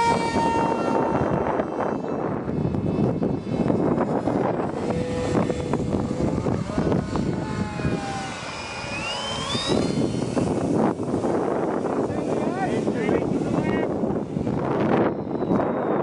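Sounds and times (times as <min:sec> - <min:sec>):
model airplane motor whining: 0:00.0 - 0:16.0
wind noise on microphone: 0:00.0 - 0:16.0.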